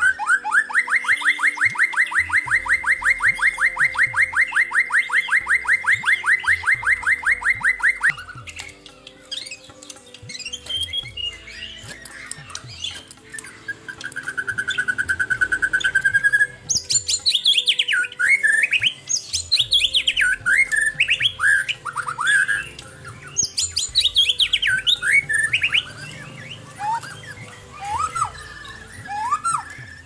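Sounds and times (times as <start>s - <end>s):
bird singing buzzy trill: 0.0s - 30.0s
bird whistled phrases: 0.0s - 30.0s.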